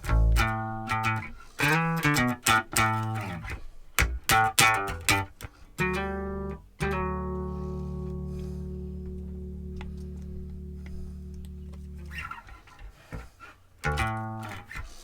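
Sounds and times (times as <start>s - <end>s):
electric bass guitar notes: 0.0s - 13.2s, 13.8s - 14.8s.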